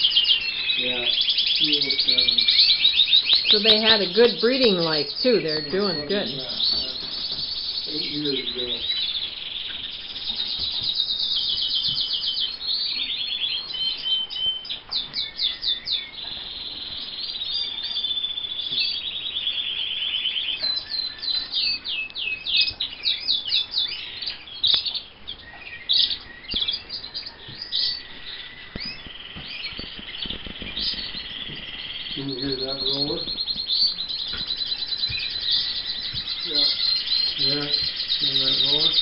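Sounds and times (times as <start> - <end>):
canaries singing trills: 0.0 - 39.0.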